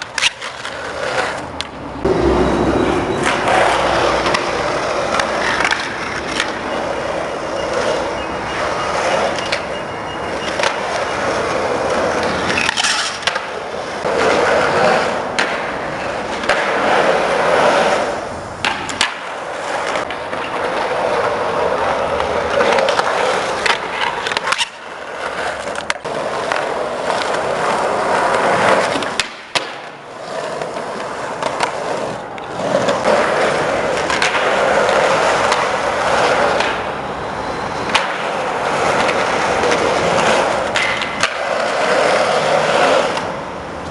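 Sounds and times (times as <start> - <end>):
skateboard clacking on ground: 0.0 - 43.9
skateboard wheels rolling on concrete: 0.0 - 43.9.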